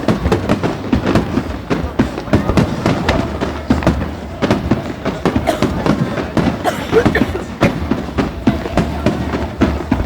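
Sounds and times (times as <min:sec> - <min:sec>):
continuous rumble: 0:00.0 - 0:10.0
fireworks bangs: 0:00.0 - 0:10.0.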